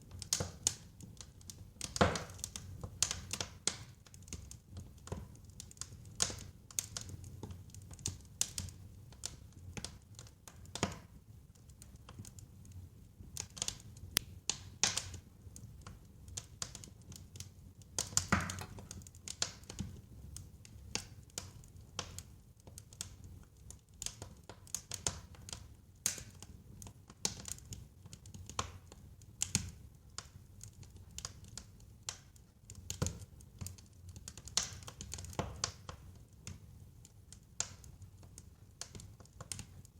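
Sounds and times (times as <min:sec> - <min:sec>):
low rumble of burning: 0:00.0 - 0:39.9
wood fire crackling and popping: 0:00.0 - 0:39.9.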